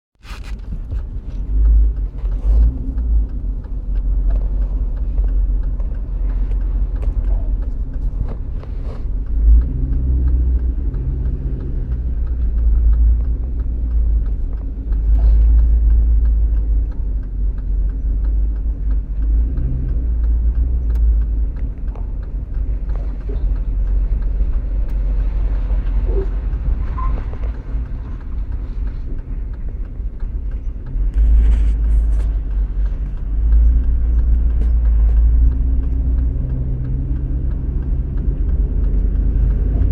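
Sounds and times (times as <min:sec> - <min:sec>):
vehicle low rumble: 0:00.2 - 0:39.9
faint creaks and ticks: 0:00.3 - 0:39.9.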